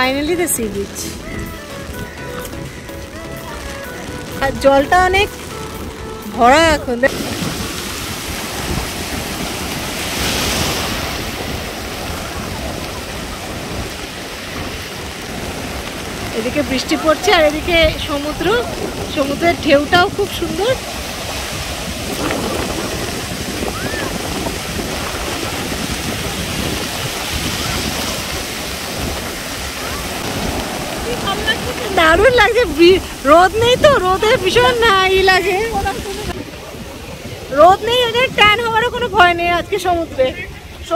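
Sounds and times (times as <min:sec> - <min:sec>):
surf breaking on beach: 0:00.0 - 0:40.9
wind buffeting microphone: 0:00.0 - 0:40.9.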